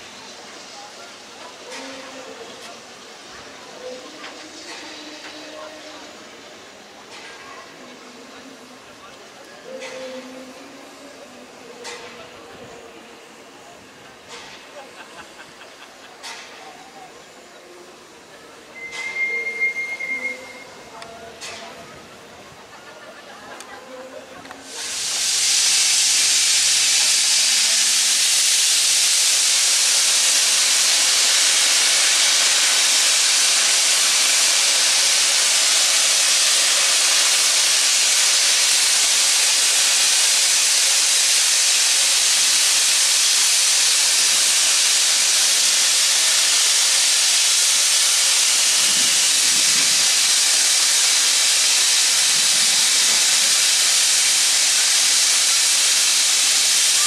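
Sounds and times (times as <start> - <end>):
steam locomotive venting steam: 0.0 - 57.0.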